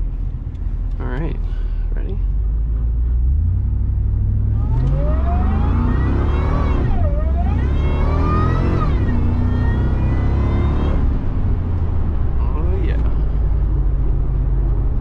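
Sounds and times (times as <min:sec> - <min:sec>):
truck engine accelerating hard: 0:02.3 - 0:15.0.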